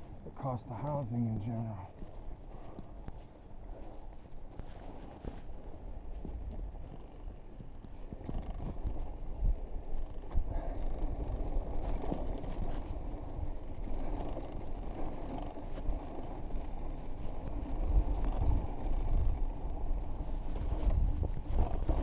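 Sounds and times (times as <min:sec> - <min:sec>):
bike tyres rumbling on rock: 0:00.0 - 0:22.0
wind buffeting microphone: 0:02.0 - 0:22.0.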